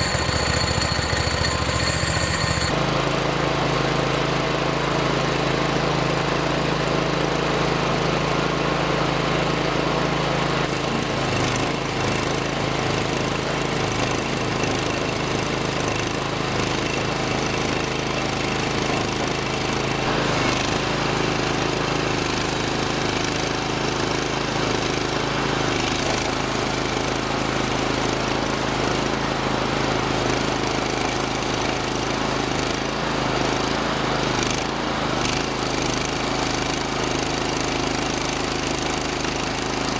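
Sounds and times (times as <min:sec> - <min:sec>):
sawmill engine running: 0:00.0 - 0:03.1, 0:10.7 - 0:39.9.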